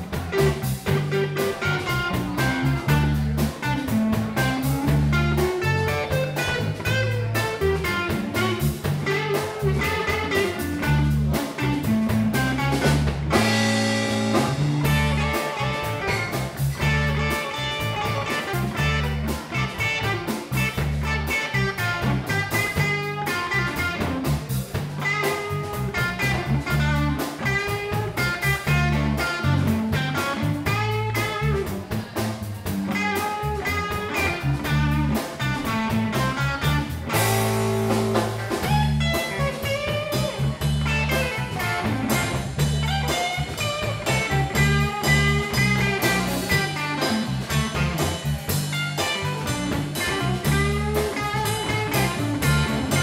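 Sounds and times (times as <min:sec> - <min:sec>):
drum kit: 0:00.0 - 0:53.0
electric bass groove: 0:00.0 - 0:53.0
electric guitar lead lines: 0:00.0 - 0:53.0.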